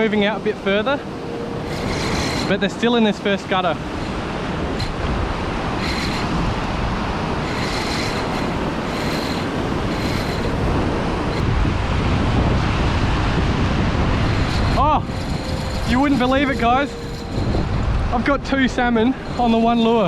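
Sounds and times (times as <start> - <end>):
breaking surf: 0.0 - 20.0
high whirring bursts: 0.0 - 20.0
wind on microphone: 0.8 - 20.0.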